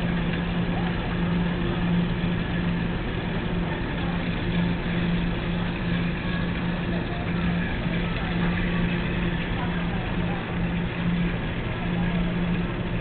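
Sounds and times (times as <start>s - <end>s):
tumble dryers humming: 0.0s - 13.0s.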